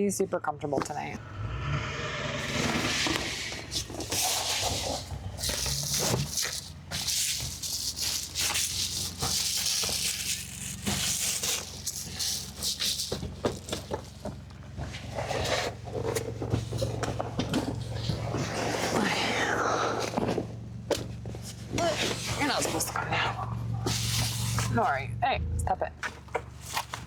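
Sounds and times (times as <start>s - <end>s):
car air conditioning hum: 0.6s - 27.0s
objects rustling and rattling: 2.4s - 25.1s, 26.0s - 27.0s.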